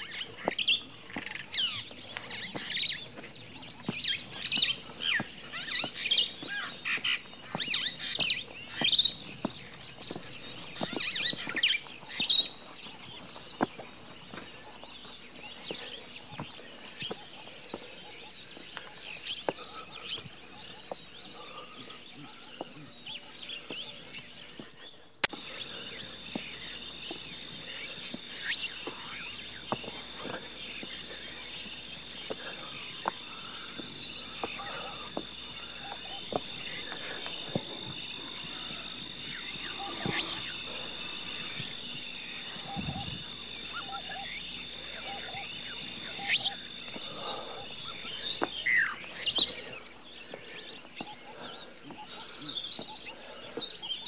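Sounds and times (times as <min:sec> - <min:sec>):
pulsing chorus of calling animals: 0:00.0 - 0:24.2, 0:25.3 - 0:54.0.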